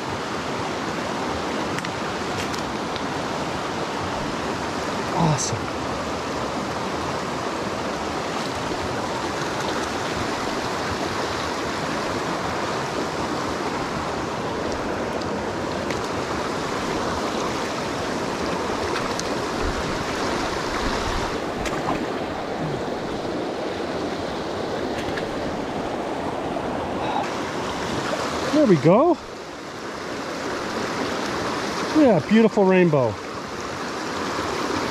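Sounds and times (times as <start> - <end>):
stream rushing over stones: 0.0 - 34.9.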